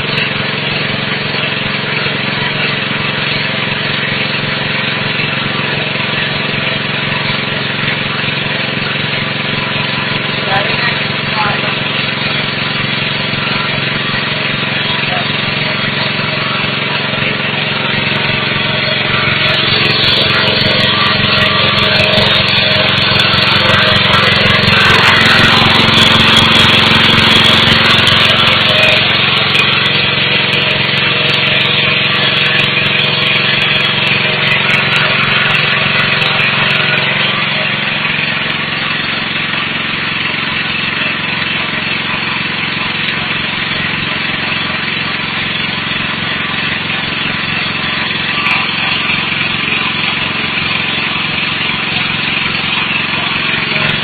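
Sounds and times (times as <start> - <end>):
motor humming: 0.0 - 54.0.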